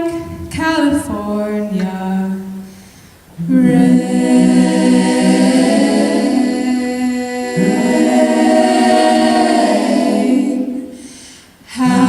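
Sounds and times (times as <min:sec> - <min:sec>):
a cappella group singing: 0:00.0 - 0:12.0.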